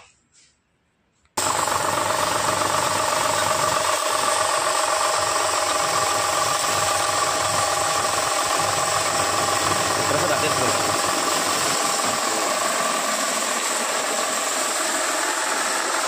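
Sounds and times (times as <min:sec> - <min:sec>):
pump machine hum with whine: 0:01.4 - 0:16.0.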